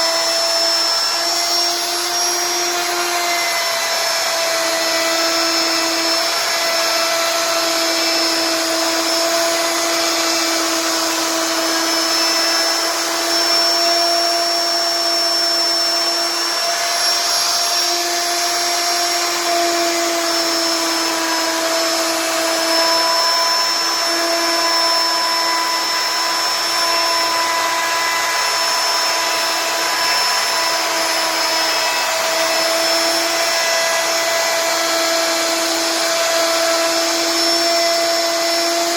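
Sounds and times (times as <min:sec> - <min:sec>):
wood router spindle whining: 0:00.0 - 0:38.9.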